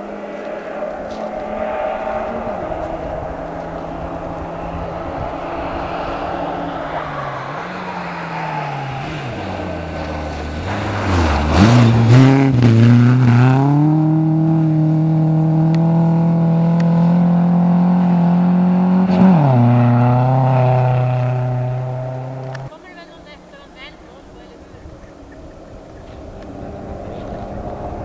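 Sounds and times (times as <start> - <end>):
rally car engine revving: 0.0 - 22.7, 25.1 - 28.0
rush of passing car: 0.0 - 28.0.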